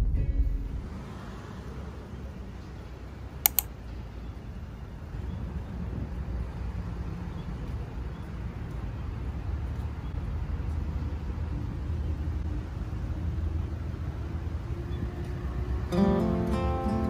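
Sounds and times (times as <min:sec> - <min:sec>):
low urban rumble: 0:00.0 - 0:17.0.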